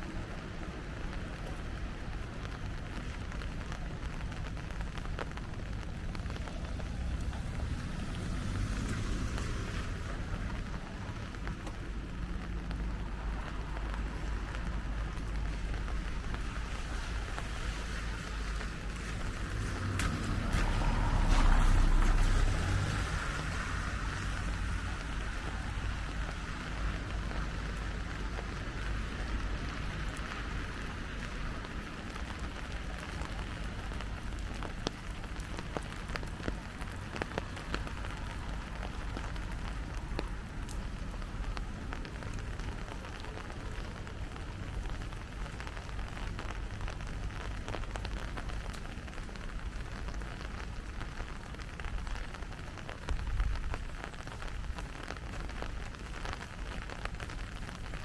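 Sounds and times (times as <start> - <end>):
rain on street: 0.0 - 58.0
raindrops ticking close by: 0.0 - 58.0.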